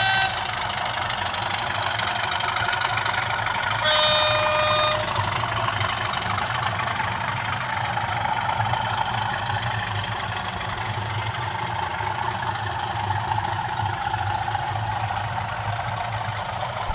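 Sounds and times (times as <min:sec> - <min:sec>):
model locomotive diesel engine drone: 0:00.0 - 0:16.9.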